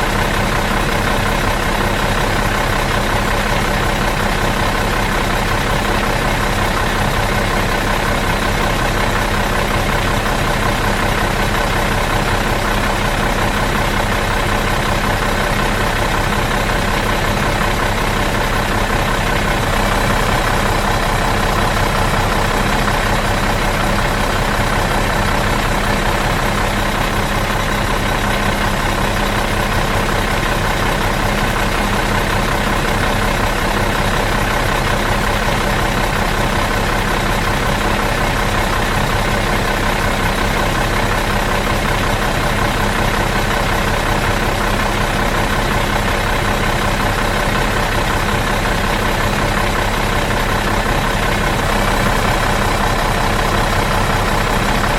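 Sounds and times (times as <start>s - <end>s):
bus diesel engine idling: 0.0s - 54.9s.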